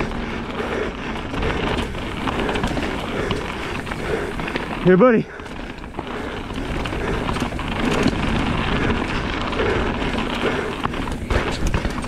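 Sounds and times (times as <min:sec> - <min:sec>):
bike rattling over ground: 0:00.0 - 0:12.0
bike tyre noise: 0:00.0 - 0:12.0.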